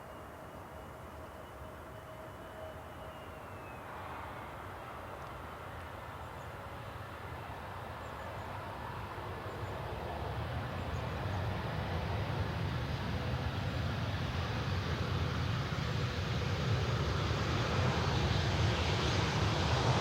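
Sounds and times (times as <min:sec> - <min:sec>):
jet airliner engine rush: 0:02.8 - 0:20.0.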